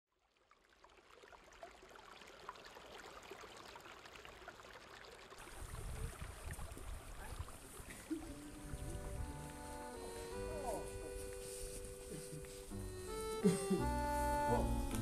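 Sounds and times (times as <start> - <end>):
stream water rushing: 0.4 - 13.4.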